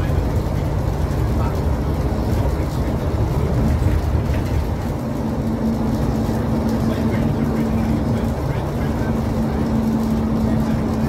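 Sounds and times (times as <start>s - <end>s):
bus diesel engine rumbling: 0.0s - 11.0s
steady hum: 0.0s - 11.0s.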